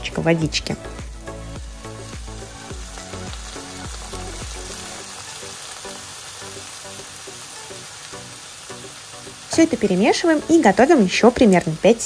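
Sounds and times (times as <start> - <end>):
water sizzling in frying pan: 0.0 - 12.0.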